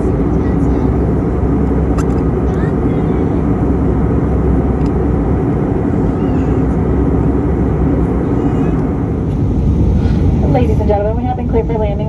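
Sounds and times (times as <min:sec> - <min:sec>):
airplane cabin noise in flight: 0:00.0 - 0:12.0.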